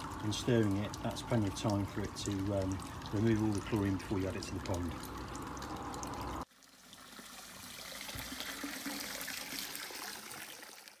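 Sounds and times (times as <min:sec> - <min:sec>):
water splashing into plastic barrel: 0:00.0 - 0:11.0
water trickling: 0:00.0 - 0:11.0.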